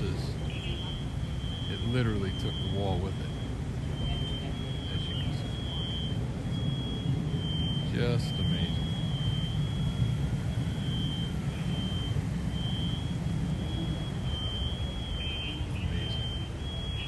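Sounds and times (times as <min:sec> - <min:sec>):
thin high steady tone: 0:00.0 - 0:17.0.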